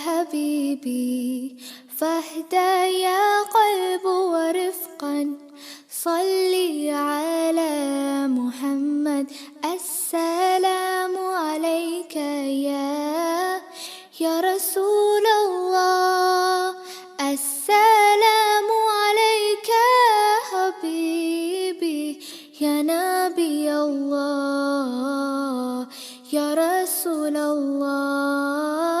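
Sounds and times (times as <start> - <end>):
high voice singing devotional song: 0.0 - 29.0.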